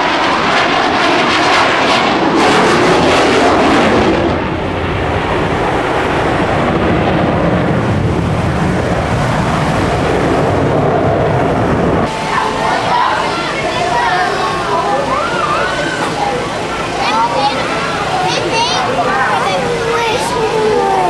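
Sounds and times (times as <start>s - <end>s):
jet fighter flying past: 0.0s - 21.0s.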